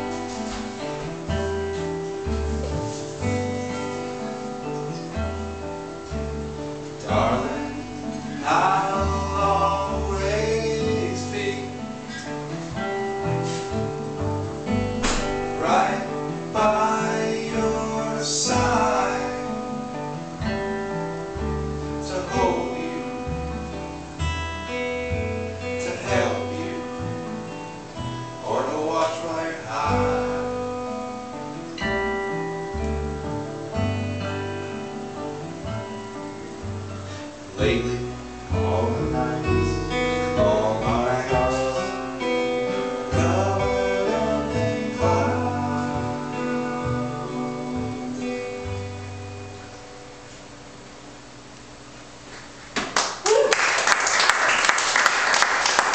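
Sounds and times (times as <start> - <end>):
upright double bass: 0.0 - 50.1
acoustic guitars strummed: 0.0 - 52.8.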